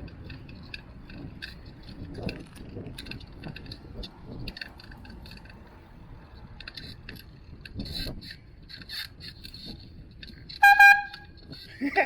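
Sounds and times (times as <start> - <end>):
bicycle rattling: 0.0 - 12.0
wind and road noise: 0.0 - 12.0.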